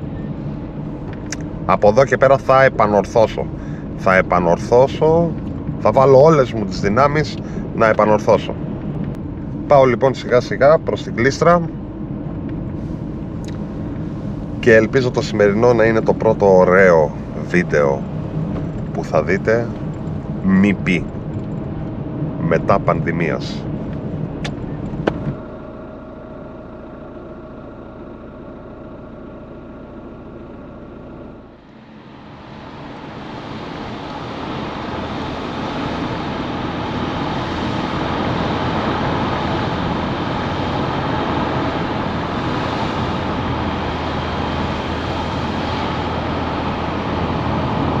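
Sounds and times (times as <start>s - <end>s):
car engine hum: 0.0s - 48.0s
road and wind noise: 0.0s - 48.0s.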